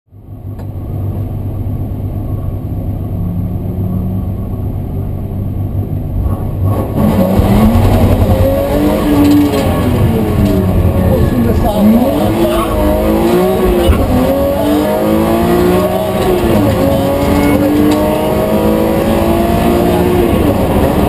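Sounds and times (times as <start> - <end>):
car engine accelerating hard: 2.3 - 21.0.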